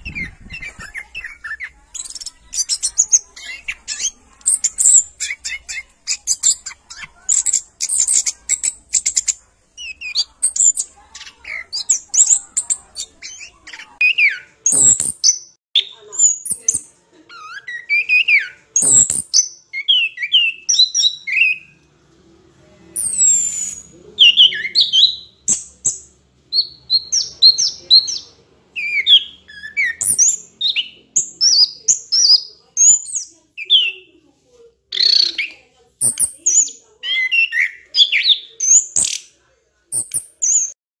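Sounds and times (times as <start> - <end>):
bird chirping: 0.0 - 21.8, 22.9 - 34.2, 34.9 - 40.8.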